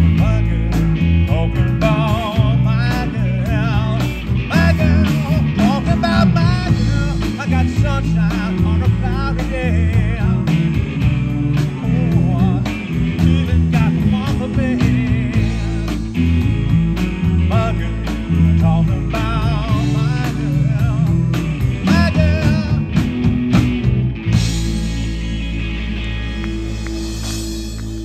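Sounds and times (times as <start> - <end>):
person singing: 0.0 - 23.2
bass guitar: 0.0 - 28.0
drum kit beat: 0.0 - 28.0
electric guitars: 0.0 - 28.0.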